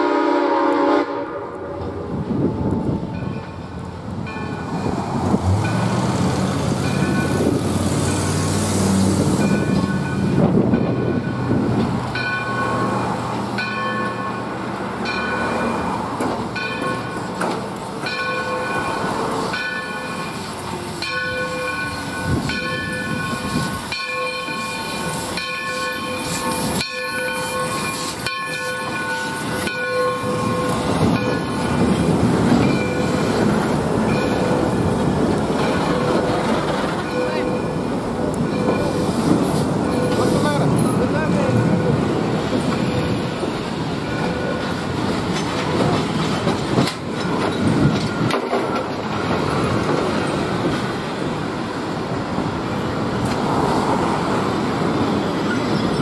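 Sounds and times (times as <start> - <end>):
coaches rolling on rails: 0.0 - 56.0
steam locomotive passing: 0.0 - 56.0.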